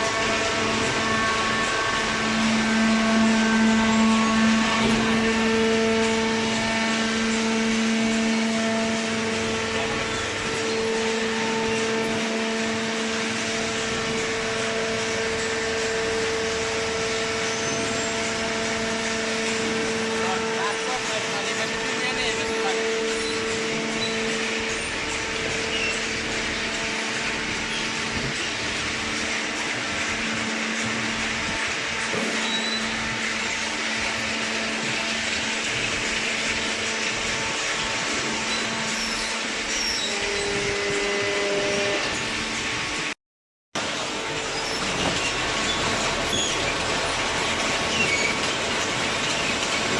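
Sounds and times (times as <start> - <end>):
hydraulic baler humming: 0.0 - 43.1, 43.8 - 49.9.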